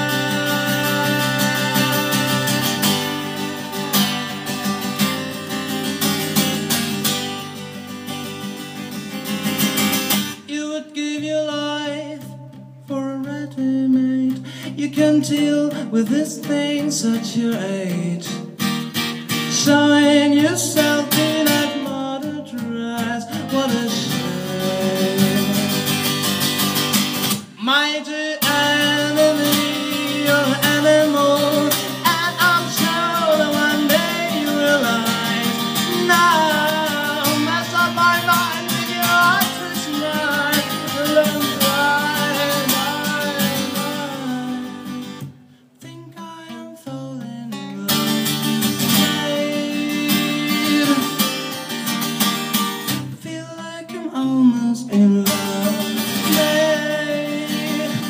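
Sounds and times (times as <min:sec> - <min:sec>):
man singing into microphone: 0:00.0 - 0:05.8, 0:10.4 - 0:18.6, 0:19.4 - 0:26.1, 0:27.5 - 0:45.2, 0:45.8 - 0:51.5, 0:53.1 - 0:58.0
strummed acoustic guitar: 0:00.0 - 0:58.0.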